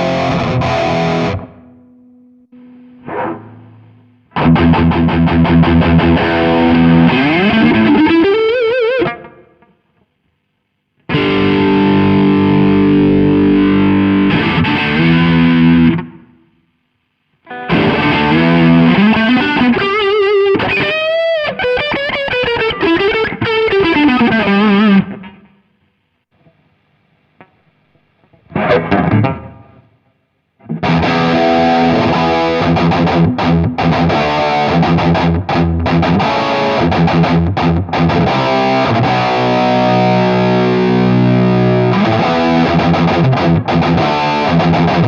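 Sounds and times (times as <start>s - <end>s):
distorted electric guitar: 0.0s - 10.2s, 11.0s - 16.7s, 17.4s - 45.0s.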